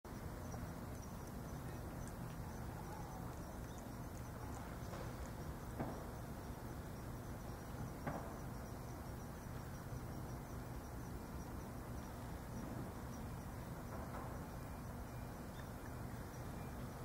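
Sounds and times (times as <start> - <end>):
faint high chirp: 0.1 - 17.0.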